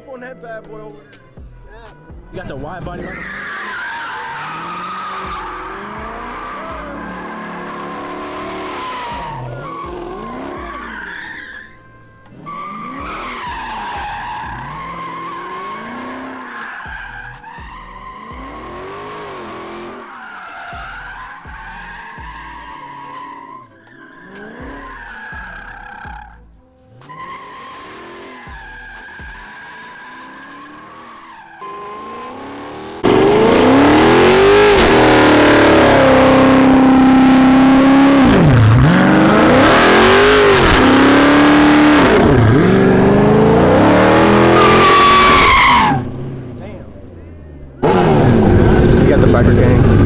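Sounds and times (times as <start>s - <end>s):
car engine revving: 0.0s - 50.0s
car tires squealing: 1.9s - 50.0s.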